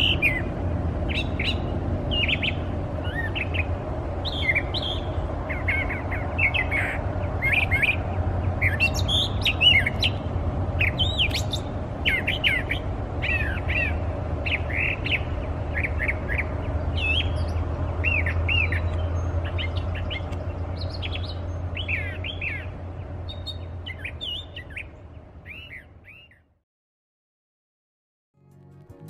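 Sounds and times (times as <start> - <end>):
bird singing chirping phrases: 0.0 - 26.6.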